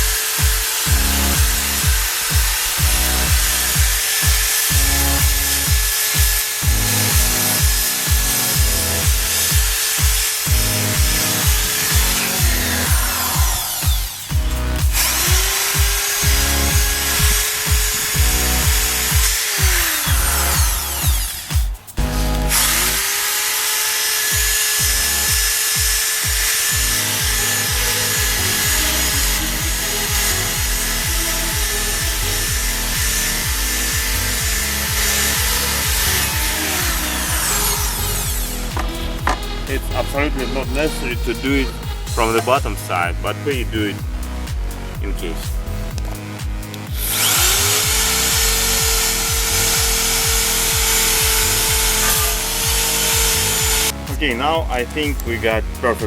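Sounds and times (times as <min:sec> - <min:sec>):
wire brush scrubbing iron: 0:00.0 - 0:43.8, 0:46.9 - 0:54.4
drill motor whine: 0:00.0 - 0:46.1, 0:46.7 - 0:54.8
background music with low beat: 0:00.0 - 0:56.0.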